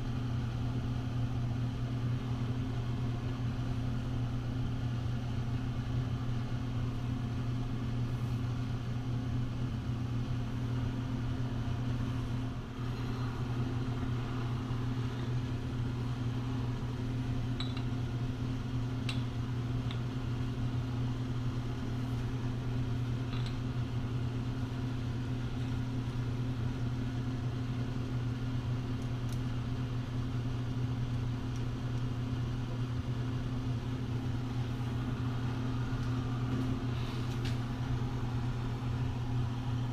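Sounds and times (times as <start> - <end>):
low machine hum: 0.0 - 39.9.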